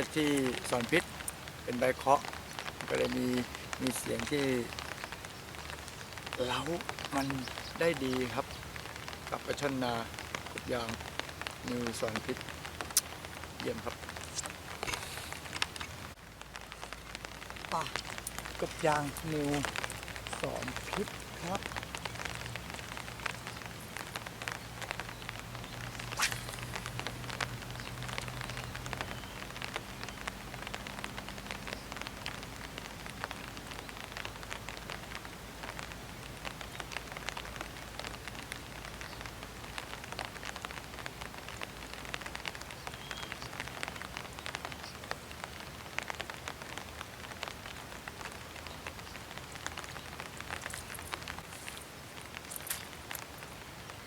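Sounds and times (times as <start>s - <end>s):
light drizzle raindrops: 0.0s - 54.0s.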